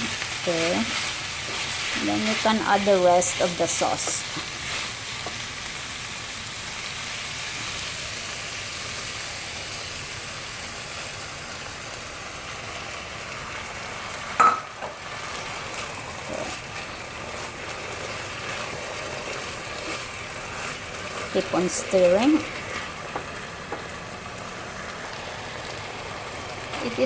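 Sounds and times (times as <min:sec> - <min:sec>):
chicken sizzling in a pan: 0:00.0 - 0:27.0.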